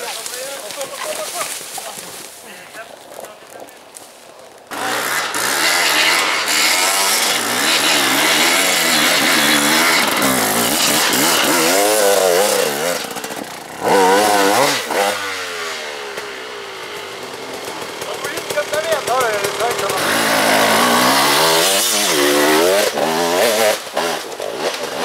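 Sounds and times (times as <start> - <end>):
dirt bike engine revving: 4.7 - 25.0.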